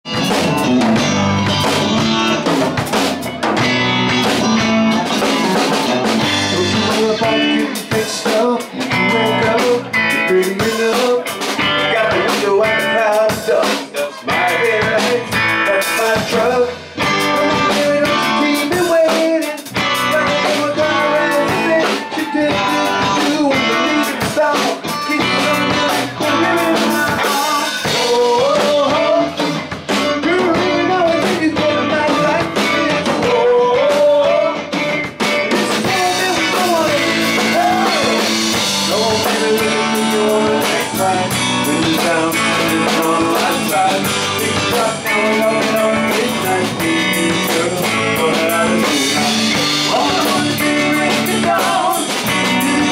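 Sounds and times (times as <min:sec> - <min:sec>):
live band playing country-rock: 0:00.0 - 0:52.9
person singing: 0:01.8 - 0:52.9.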